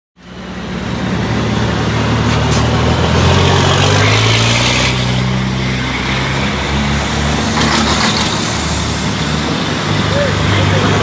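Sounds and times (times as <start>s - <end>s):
diesel trucks running at low revs: 0.2s - 11.0s.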